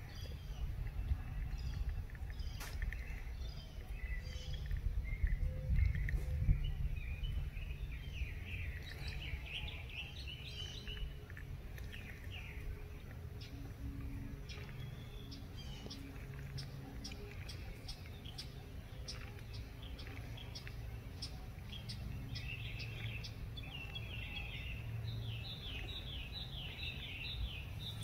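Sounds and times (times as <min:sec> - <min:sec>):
birds chirping: 0:00.0 - 0:28.0
low steady hum: 0:00.0 - 0:28.0.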